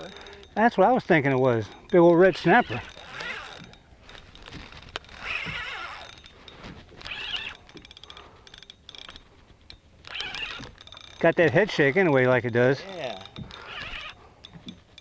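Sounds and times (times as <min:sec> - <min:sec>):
fishing reel cranking: 0:00.0 - 0:15.0
rapid ticking of fishing reel: 0:00.0 - 0:15.0.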